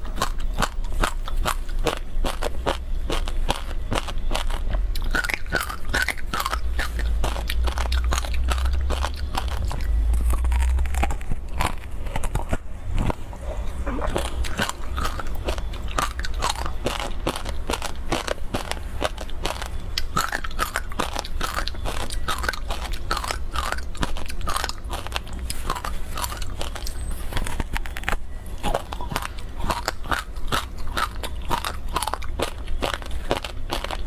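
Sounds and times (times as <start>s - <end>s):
crunching ice between teeth: 0.0s - 34.0s
steady low hum: 0.0s - 34.0s.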